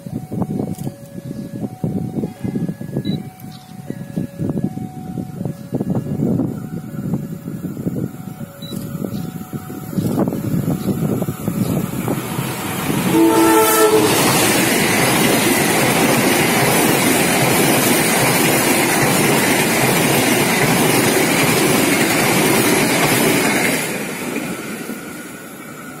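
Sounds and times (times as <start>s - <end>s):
train coaches rolling past: 0.0s - 26.0s.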